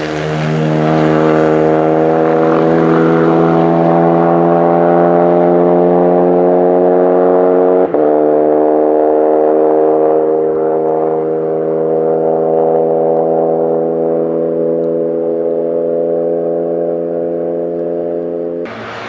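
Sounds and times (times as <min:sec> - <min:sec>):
race car engine driving away: 0:00.0 - 0:19.0.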